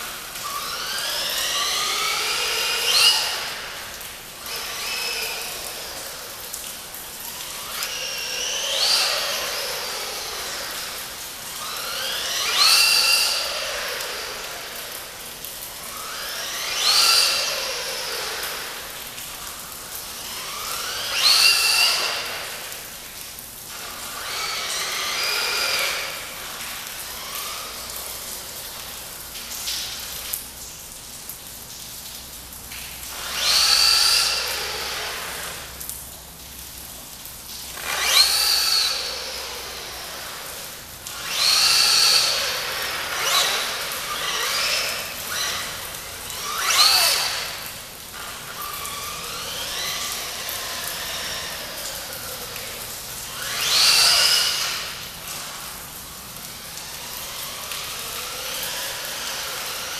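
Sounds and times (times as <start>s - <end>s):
electric motor whining: 0.0s - 29.4s, 33.1s - 35.8s, 37.7s - 59.9s.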